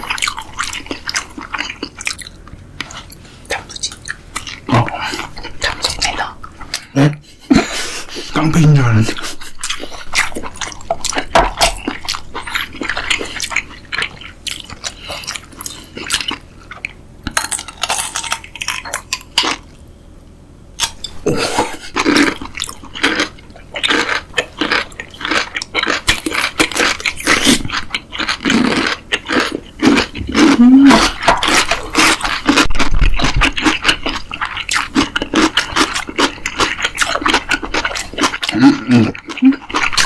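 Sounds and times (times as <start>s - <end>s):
person chewing: 0.0s - 19.9s, 20.8s - 40.0s.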